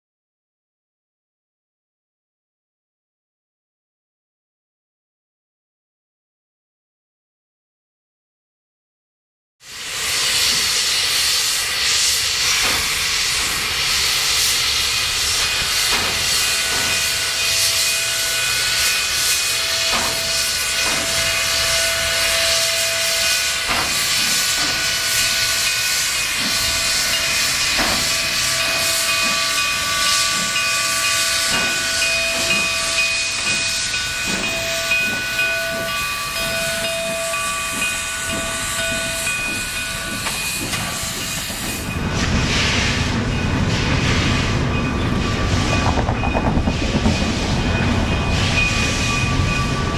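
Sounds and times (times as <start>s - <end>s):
steam locomotive hissing: 9.6s - 49.9s.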